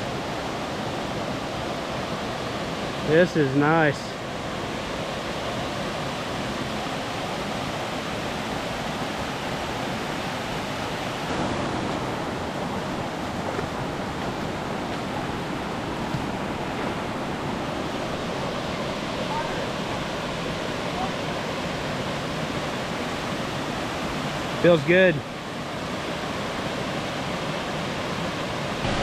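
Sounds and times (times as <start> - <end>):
water rushing over falls: 0.0 - 29.0.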